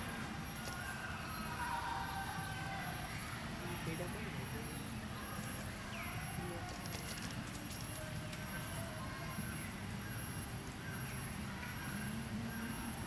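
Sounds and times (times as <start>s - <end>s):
faint chirping calls: 0.0s - 13.0s.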